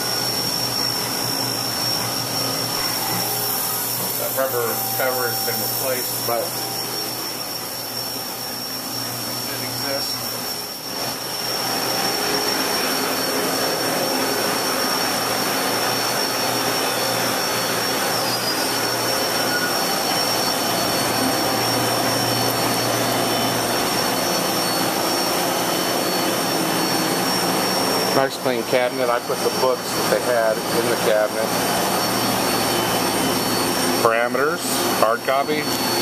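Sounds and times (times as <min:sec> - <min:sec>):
milling machine running: 0:00.0 - 0:36.0.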